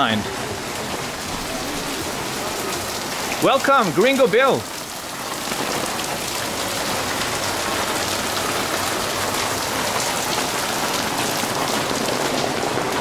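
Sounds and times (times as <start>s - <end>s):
rain on an umbrella: 0.0s - 13.0s.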